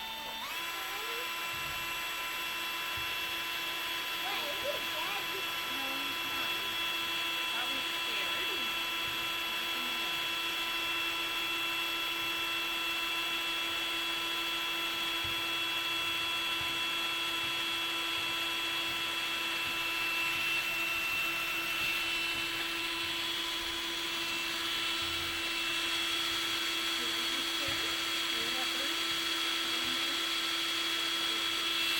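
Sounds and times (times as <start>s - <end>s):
power drill boring into column: 0.0s - 31.9s.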